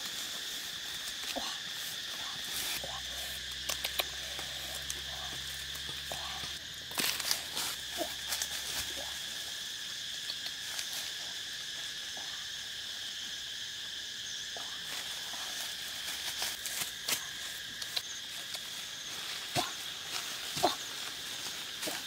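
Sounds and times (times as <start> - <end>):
leaves and branches rustling: 0.0 - 12.0, 14.6 - 22.0
insects chirring: 0.0 - 22.0.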